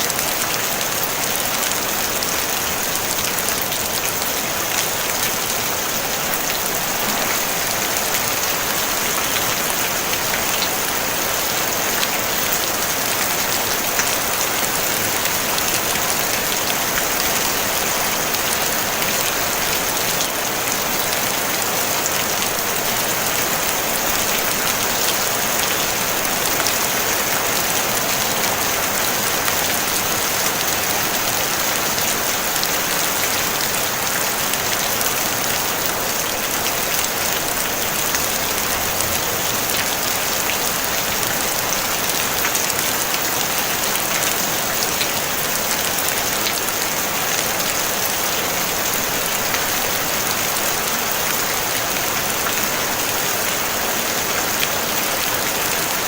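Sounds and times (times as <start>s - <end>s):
rain pattering on a tin roof: 0.0s - 56.0s.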